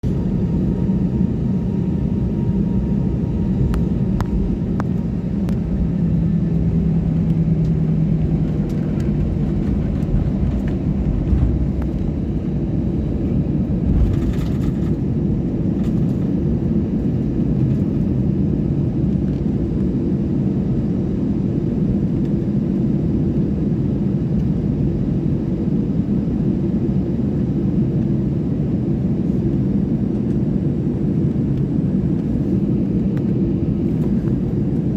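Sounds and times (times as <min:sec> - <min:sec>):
aeroplane engine rumble: 0:00.0 - 0:34.9.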